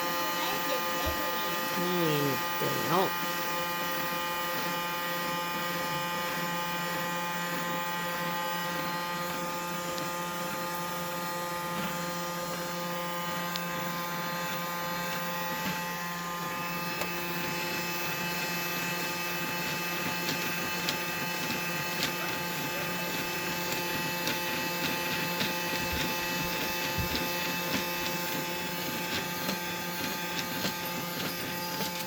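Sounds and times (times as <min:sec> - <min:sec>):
robot vacuum motor whine: 0:00.0 - 0:32.0.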